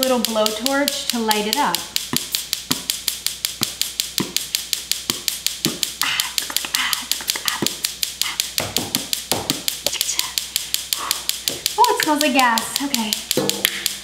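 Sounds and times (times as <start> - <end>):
beatboxed mouth sounds: 0.0 - 14.0
gas igniter clicking rapidly: 0.0 - 14.0.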